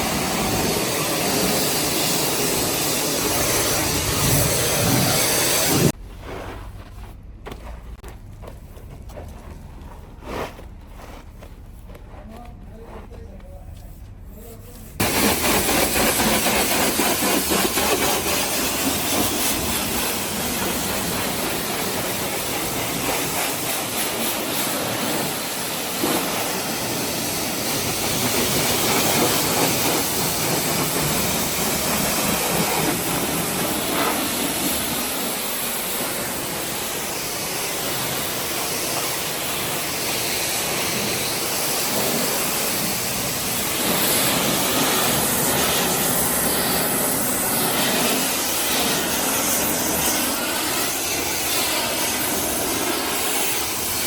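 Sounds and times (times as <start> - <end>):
pressure washer spraying water: 0.0 - 6.0, 15.0 - 54.0.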